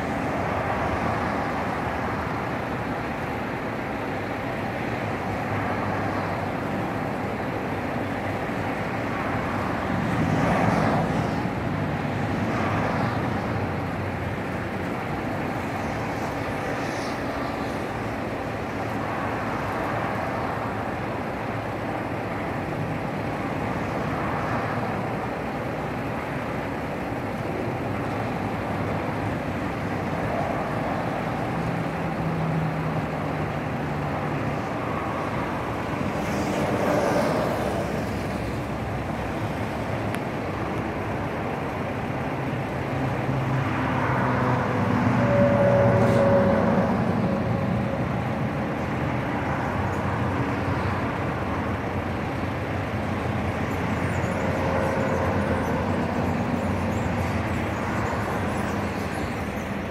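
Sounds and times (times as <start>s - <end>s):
distant traffic noise: 0.0s - 59.9s.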